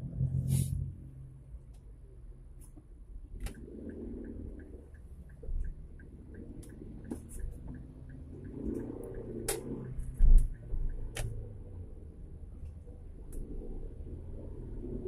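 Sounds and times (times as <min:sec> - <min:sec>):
engine and road rumble: 0:00.0 - 0:15.0
turn signal ticking: 0:02.7 - 0:15.0.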